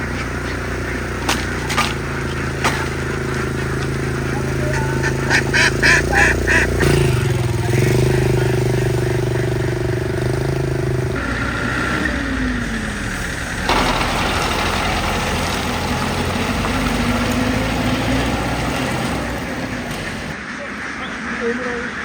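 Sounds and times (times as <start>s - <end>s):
vehicle engine running: 0.0s - 20.5s.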